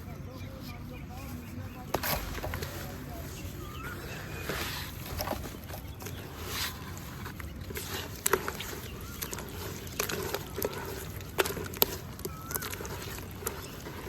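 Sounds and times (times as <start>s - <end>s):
water trickling over pebbles: 1.9s - 14.0s.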